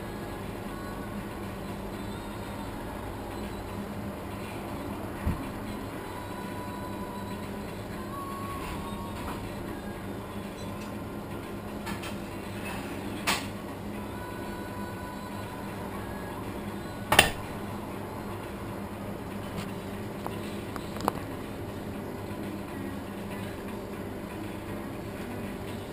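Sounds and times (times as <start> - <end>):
low hum of shop interior: 0.0 - 25.9.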